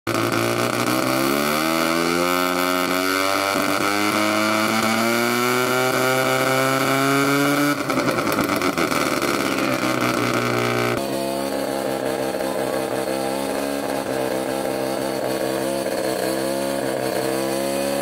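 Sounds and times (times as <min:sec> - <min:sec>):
rotary engine exhaust revving: 0:00.1 - 0:18.0.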